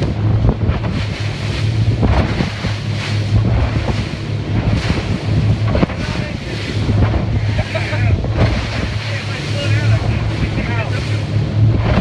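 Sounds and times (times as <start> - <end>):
boat engine hum: 0.0 - 12.0
water slapping against boat hull: 0.0 - 12.0
wind buffeting microphone: 0.0 - 12.0.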